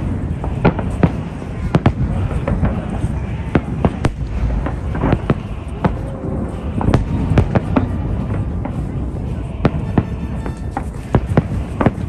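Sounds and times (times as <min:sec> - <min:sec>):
crowd noise: 0:00.0 - 0:12.0
fireworks bangs: 0:00.0 - 0:12.0
low rumble: 0:00.0 - 0:12.0.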